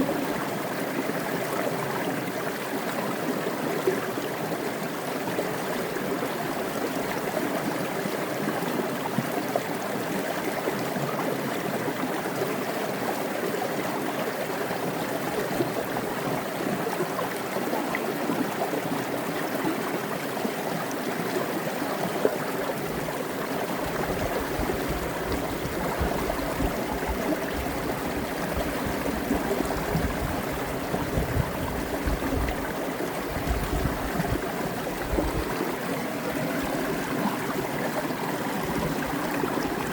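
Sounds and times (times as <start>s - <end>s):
creek water rushing and splashing: 0.0s - 39.9s.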